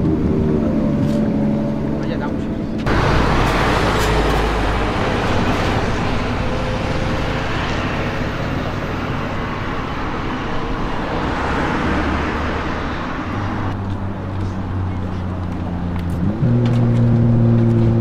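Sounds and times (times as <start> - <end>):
traffic rushing past: 0.0 - 18.0.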